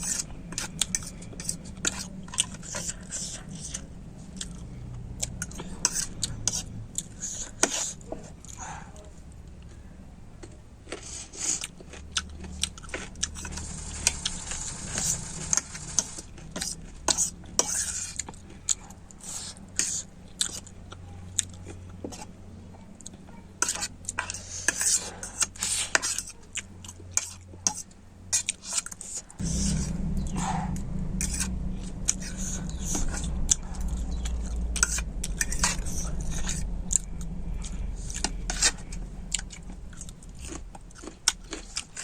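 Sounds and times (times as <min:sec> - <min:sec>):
chewing: 0:00.0 - 0:09.8, 0:10.4 - 0:42.0.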